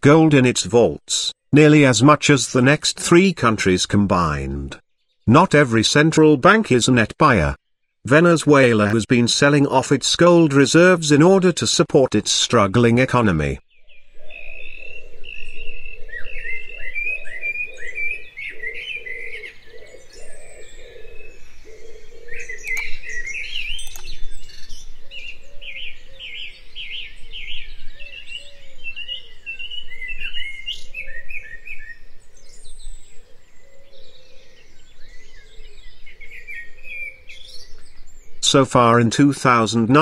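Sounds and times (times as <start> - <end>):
birds chirping: 0.0 - 11.4, 12.5 - 40.0.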